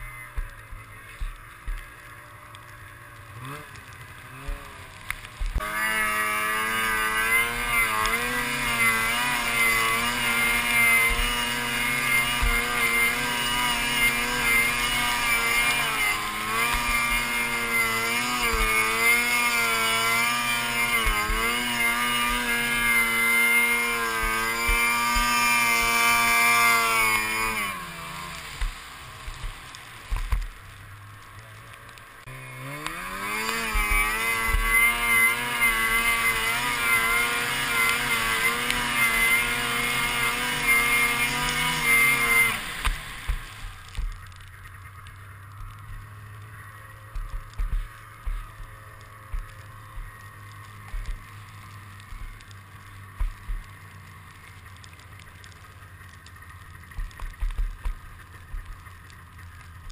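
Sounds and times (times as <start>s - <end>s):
snowmobile engine revving: 0.0s - 58.8s.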